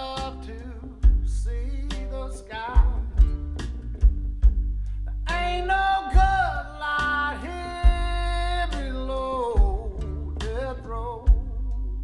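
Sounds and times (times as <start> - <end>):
man singing: 0.0 - 3.6, 5.1 - 12.0
country-blues song over loudspeakers: 0.0 - 12.0.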